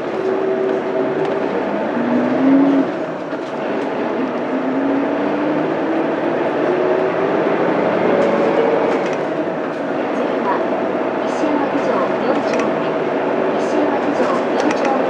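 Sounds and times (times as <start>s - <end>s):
diesel bus accelerating: 0.0s - 15.0s.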